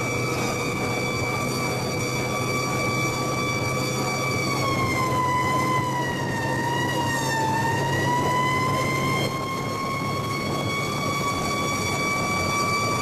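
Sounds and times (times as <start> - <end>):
fire truck siren wailing: 0.0 - 13.0
truck engine drone: 0.0 - 13.0.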